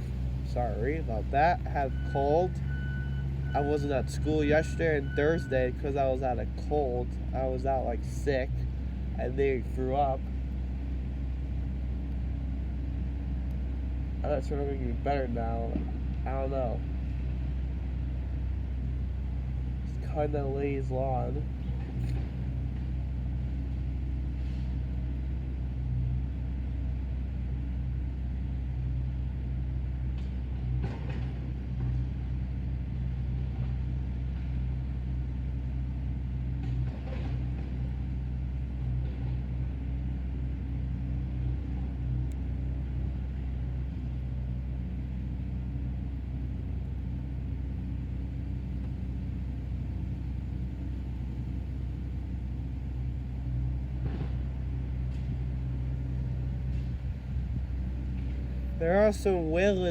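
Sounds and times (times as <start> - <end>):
excavator diesel engine rumbling: 0.0 - 59.9.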